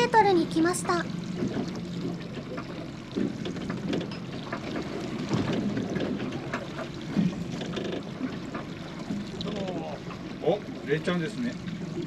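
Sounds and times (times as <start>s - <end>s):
water rushing: 0.0s - 12.0s
wind: 0.8s - 12.0s.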